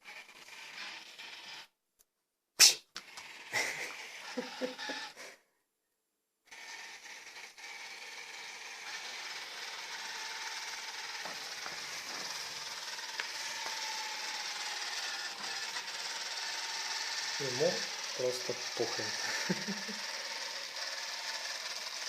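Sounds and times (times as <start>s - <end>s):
robot vacuum cleaner whirring: 0.0s - 1.7s, 3.0s - 5.3s, 6.5s - 22.0s.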